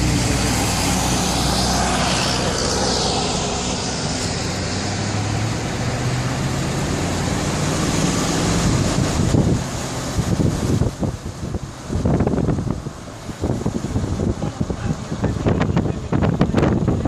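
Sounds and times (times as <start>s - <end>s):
steady rushing noise: 0.0s - 17.0s
vehicle engine running: 0.0s - 17.0s
wind buffeting microphone: 0.0s - 17.0s.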